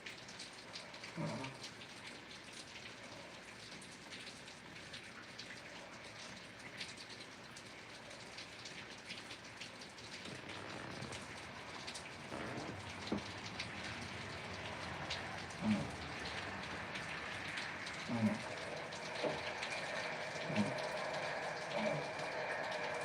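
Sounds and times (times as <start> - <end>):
rain drops on hard surface: 0.0 - 23.0.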